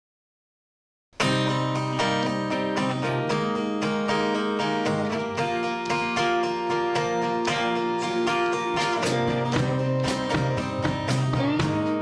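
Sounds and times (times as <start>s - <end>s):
strummed acoustic guitar: 1.2s - 12.0s.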